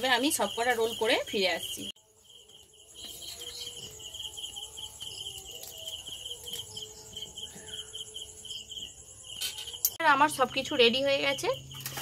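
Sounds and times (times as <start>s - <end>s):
high insect buzz: 0.0s - 9.9s
crickets chirping: 0.0s - 12.0s.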